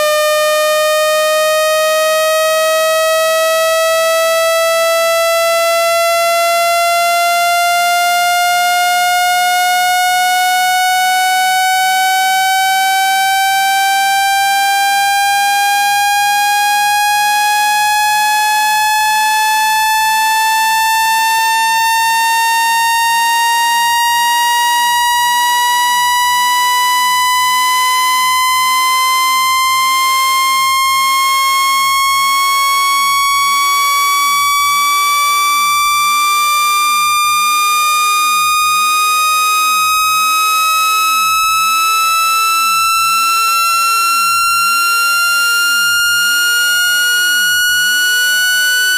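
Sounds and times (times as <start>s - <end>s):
electronic tone rising in pitch: 8.8s - 48.9s.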